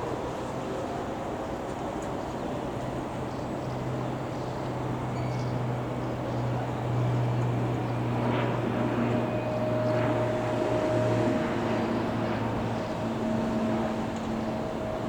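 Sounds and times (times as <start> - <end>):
aircraft engines running: 0.0 - 15.0.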